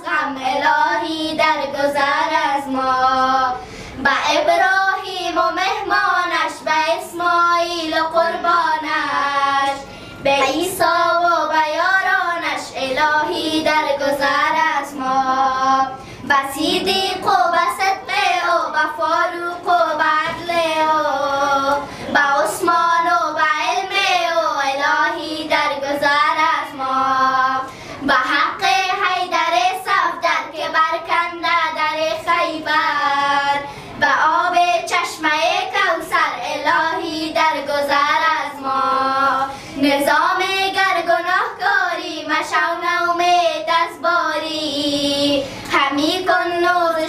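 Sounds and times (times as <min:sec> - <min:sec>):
girls singing a hymn in unison: 0:00.0 - 0:47.0.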